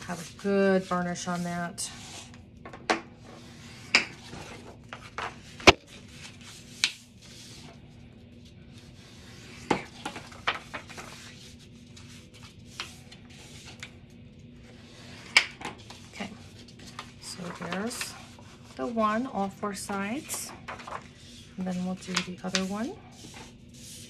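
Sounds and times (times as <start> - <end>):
paper being folded and rubbed: 0.0 - 2.3, 3.2 - 24.0.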